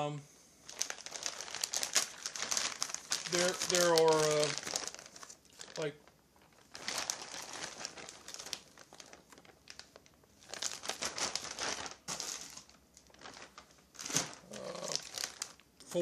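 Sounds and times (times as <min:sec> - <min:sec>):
plastic bag crinkling: 0:00.6 - 0:16.0.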